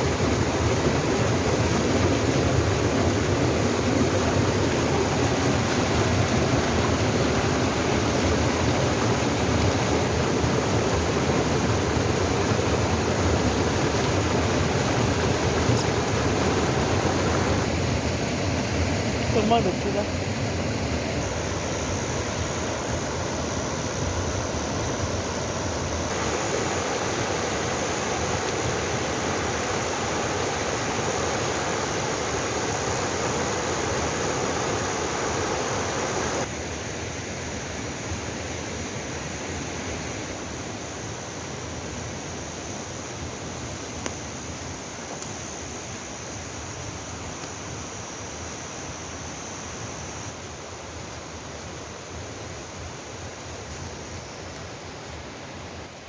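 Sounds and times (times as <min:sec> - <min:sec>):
stream rushing water: 0:00.0 - 0:56.0.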